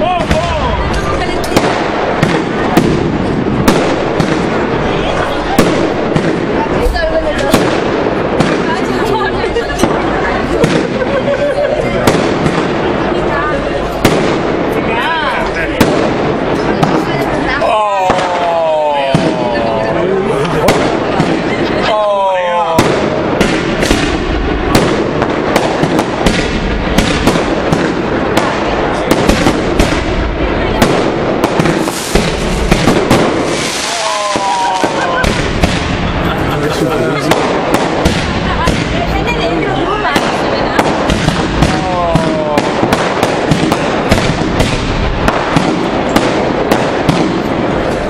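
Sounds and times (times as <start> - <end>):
fireworks bangs: 0.0 - 48.0
fireworks crackling: 0.0 - 48.0.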